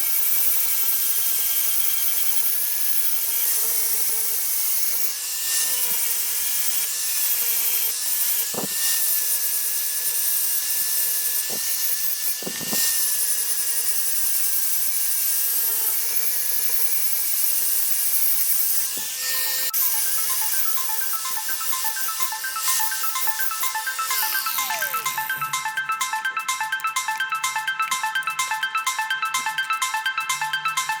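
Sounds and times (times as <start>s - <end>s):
electric grinder on steel: 0.0s - 25.4s.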